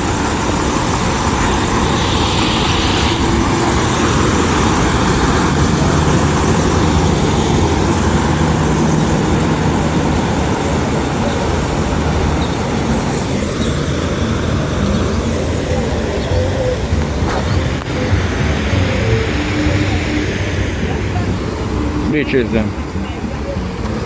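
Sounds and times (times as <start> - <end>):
low engine hum: 0.0 - 24.0
vehicle road noise: 0.0 - 24.0.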